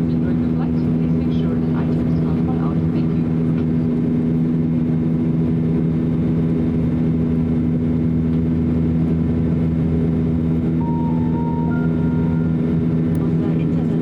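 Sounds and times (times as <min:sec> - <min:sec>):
jet engines droning in cabin: 0:00.0 - 0:14.0.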